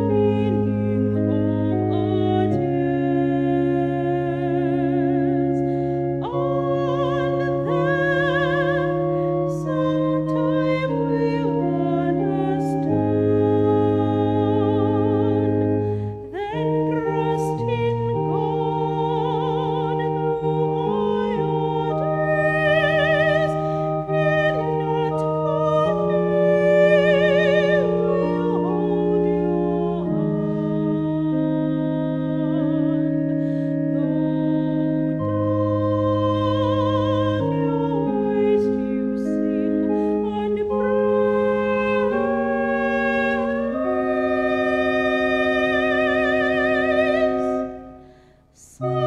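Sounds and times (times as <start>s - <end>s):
sustained keyboard chords: 0.0s - 49.0s
woman singing a hymn: 0.0s - 49.0s.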